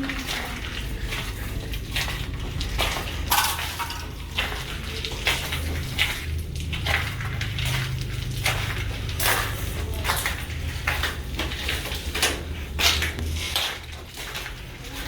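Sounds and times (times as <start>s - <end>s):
footsteps crunching over debris: 0.0s - 15.0s.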